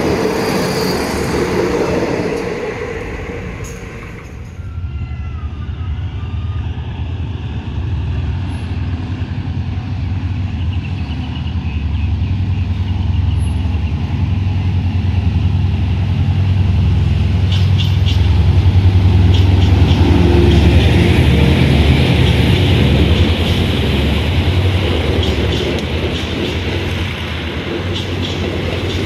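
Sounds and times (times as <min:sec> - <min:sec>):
diesel train engine droning: 0:00.0 - 0:29.0.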